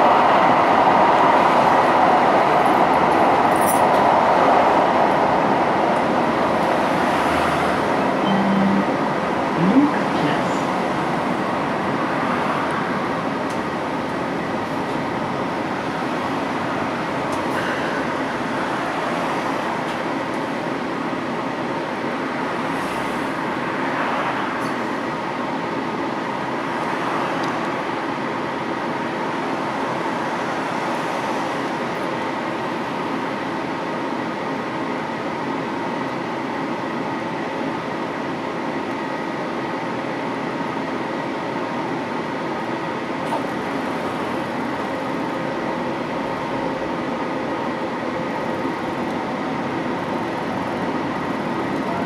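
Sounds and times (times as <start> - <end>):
wheels rumbling on rails: 0.0 - 52.0.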